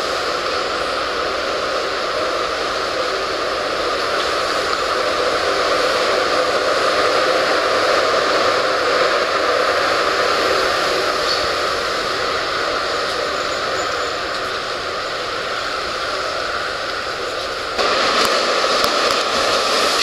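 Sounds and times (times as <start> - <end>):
train rolling hiss: 0.0 - 20.0.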